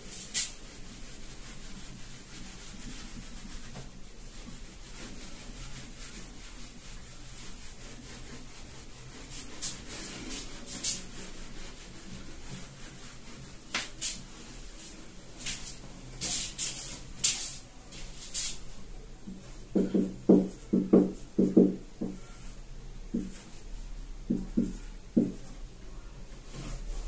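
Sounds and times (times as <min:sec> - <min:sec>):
whiteboard being wiped: 0:00.0 - 0:27.0.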